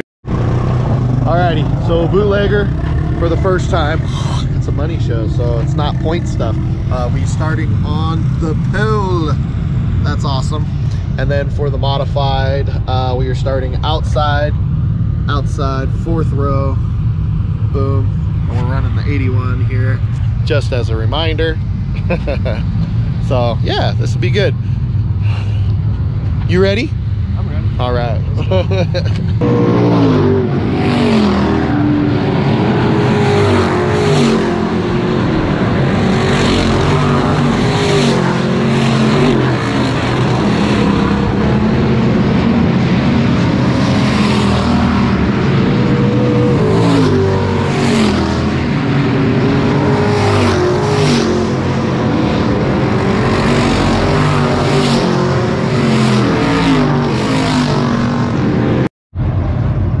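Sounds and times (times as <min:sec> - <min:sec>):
race car engines revving: 0:00.3 - 1:00.0.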